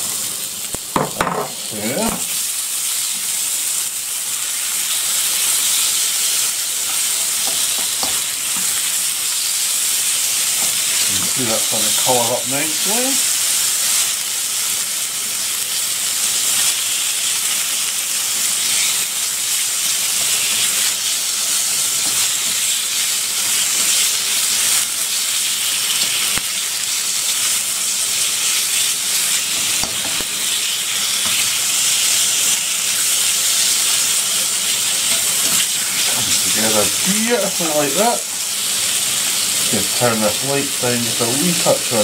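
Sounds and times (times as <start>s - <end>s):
meat sizzling in a wok: 0.0s - 42.0s.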